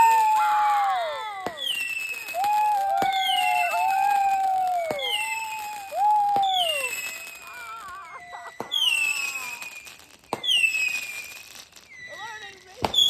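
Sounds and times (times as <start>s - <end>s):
firework bangs: 0.0s - 13.0s
firework whistles falling in pitch: 0.0s - 13.0s.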